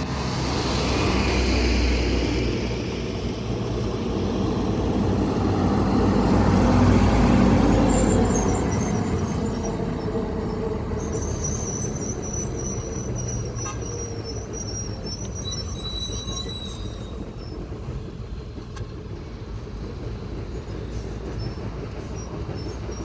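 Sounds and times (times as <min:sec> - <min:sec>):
vehicle engine and tyre noise: 0:00.0 - 0:23.0.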